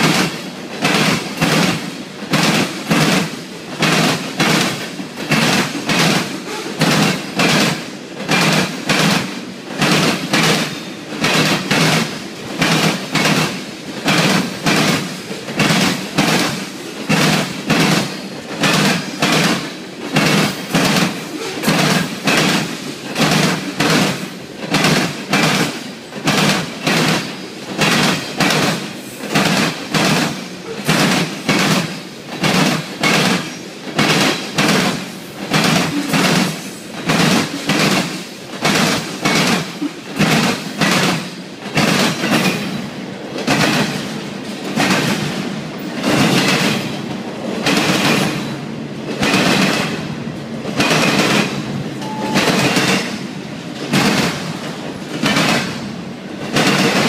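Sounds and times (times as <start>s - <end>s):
freight train rumble: 0.0s - 57.0s
wheels clacking on rails: 0.0s - 57.0s.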